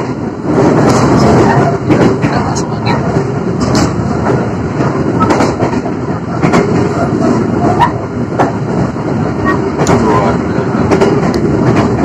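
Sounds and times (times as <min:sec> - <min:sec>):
sharp rail clicks: 0:00.0 - 0:12.0
train wheels rumbling on track: 0:00.0 - 0:12.0.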